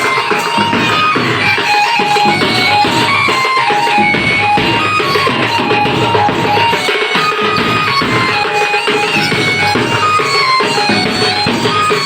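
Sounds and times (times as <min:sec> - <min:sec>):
drums and percussion: 0:00.0 - 0:12.0
melody of short held notes: 0:00.0 - 0:12.0.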